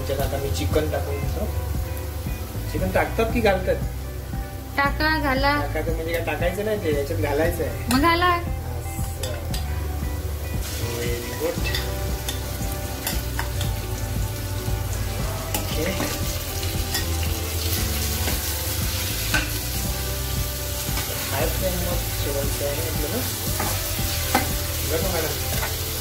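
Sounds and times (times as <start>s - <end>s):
chicken and onions sizzling: 0.0s - 26.0s.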